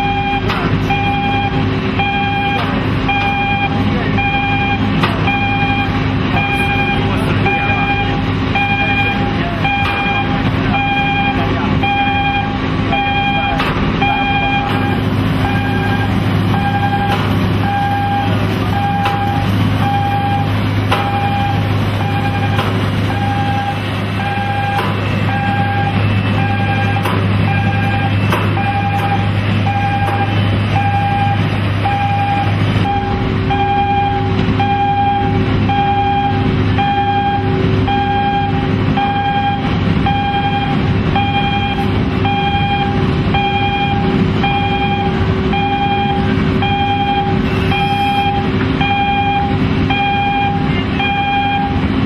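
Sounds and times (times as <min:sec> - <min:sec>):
crane engine humming: 0:00.0 - 0:52.0
warning alarm beeps: 0:00.0 - 0:52.0.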